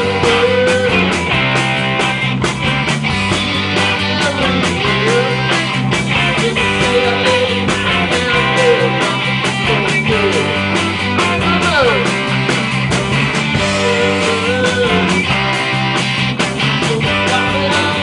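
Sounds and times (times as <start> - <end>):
drum kit beat: 0.0 - 18.0
lead guitar bent sliding notes: 0.0 - 18.0
rock band playing: 0.0 - 18.0.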